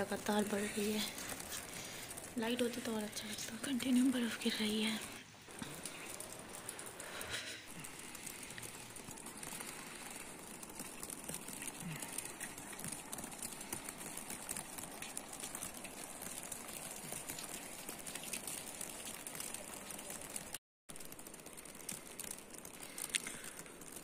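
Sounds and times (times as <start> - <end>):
wet snow falling on leaves: 0.0 - 24.0.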